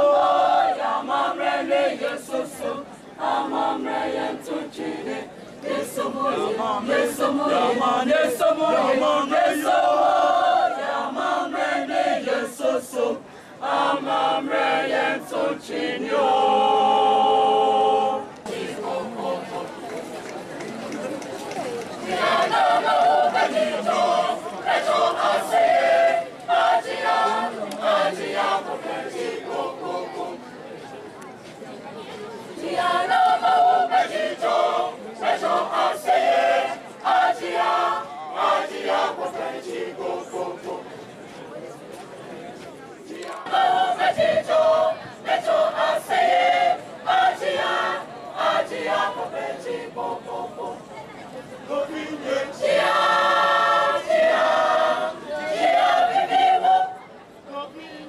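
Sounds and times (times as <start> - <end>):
children's choir singing: 0.0 - 20.1, 22.0 - 30.4, 32.5 - 40.9, 43.1 - 50.9, 51.7 - 58.0.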